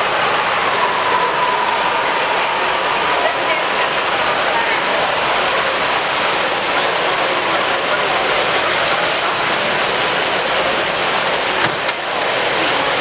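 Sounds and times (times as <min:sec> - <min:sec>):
crowd chatter in a hall: 0:00.0 - 0:13.0.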